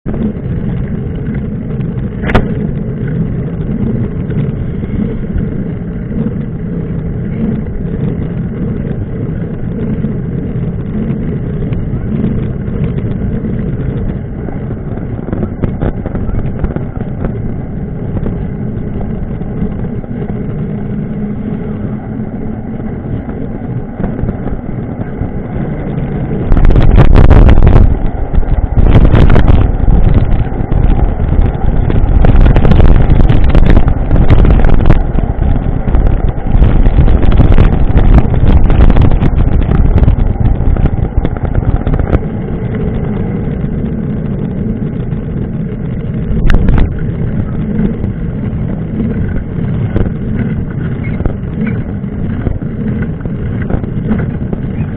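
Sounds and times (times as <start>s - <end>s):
loud rough noise: 0.0s - 54.9s
vehicle low rumble: 0.0s - 54.9s.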